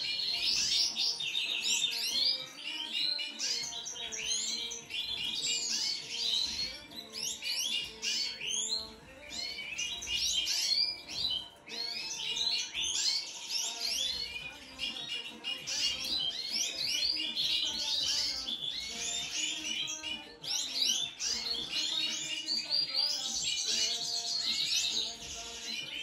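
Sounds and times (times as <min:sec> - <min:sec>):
finches twittering: 0:00.0 - 0:26.0.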